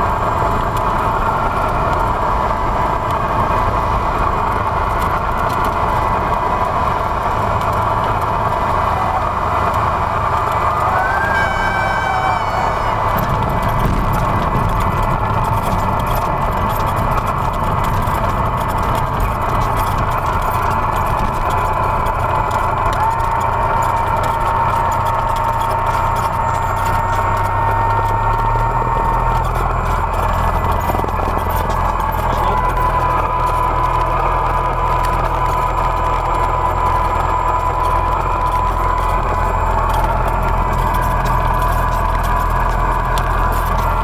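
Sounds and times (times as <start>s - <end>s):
airplane engine and propeller: 0.0s - 44.0s.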